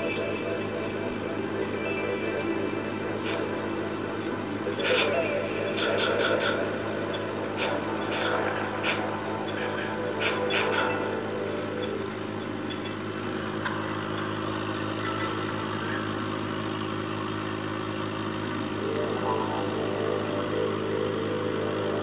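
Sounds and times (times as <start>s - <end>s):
aquarium pump hum: 0.0s - 22.0s.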